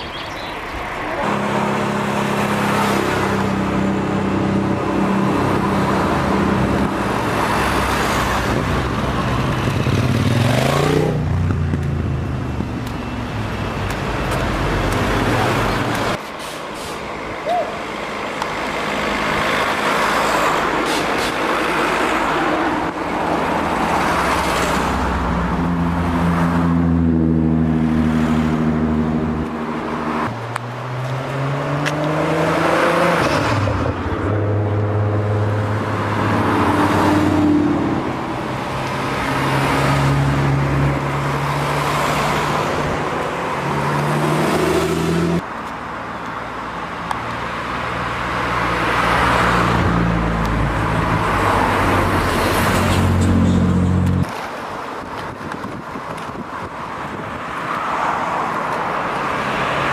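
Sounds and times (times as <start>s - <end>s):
cars driving past: 0.0s - 55.1s.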